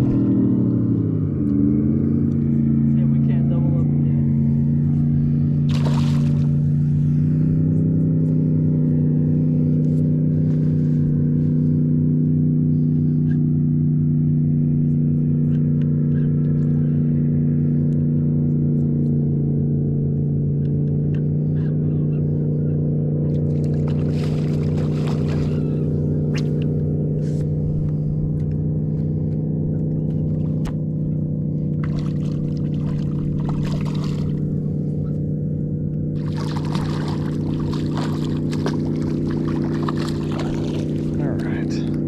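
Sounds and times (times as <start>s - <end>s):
boat motor humming: 0.0s - 42.0s.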